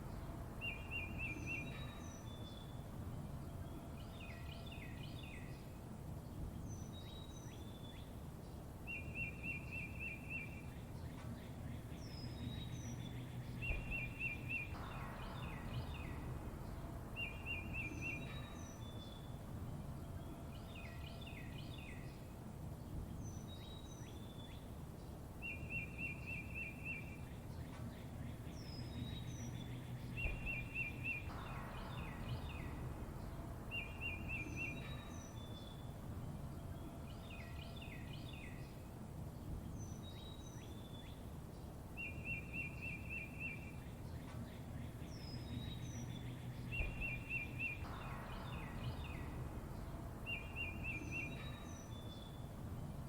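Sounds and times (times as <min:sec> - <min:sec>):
low background rumble: 0:00.0 - 0:53.0
small songbirds chirping: 0:00.0 - 0:53.0.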